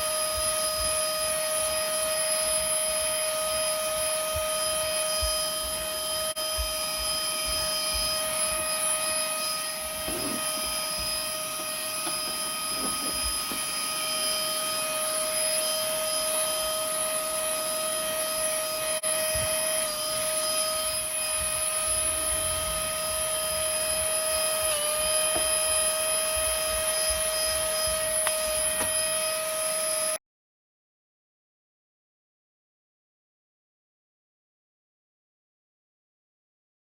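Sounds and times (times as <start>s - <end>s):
handheld vacuum cleaner running: 0.0s - 30.2s.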